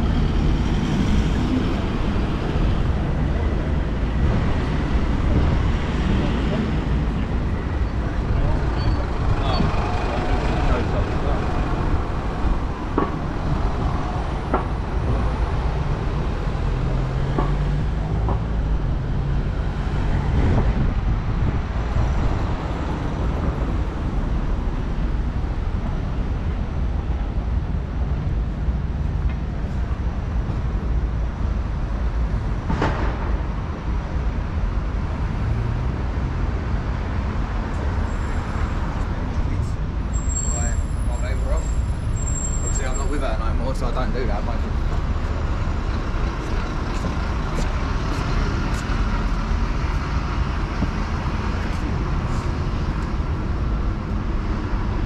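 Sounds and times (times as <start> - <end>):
city road traffic: 0.0 - 55.0.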